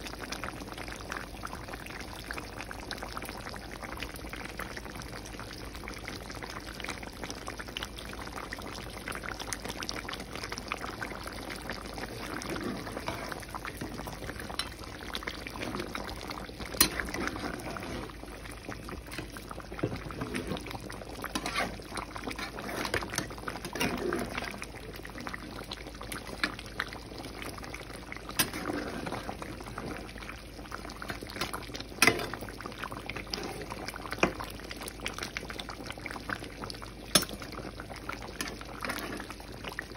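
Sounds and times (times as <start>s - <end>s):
curry bubbling: 0.0s - 39.9s.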